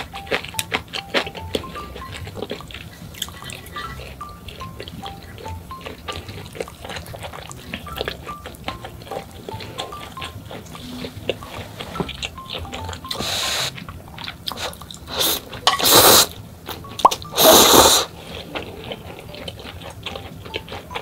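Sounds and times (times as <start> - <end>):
chewing: 0.0 - 21.0
noodles being slurped: 0.5 - 16.4, 17.2 - 20.2.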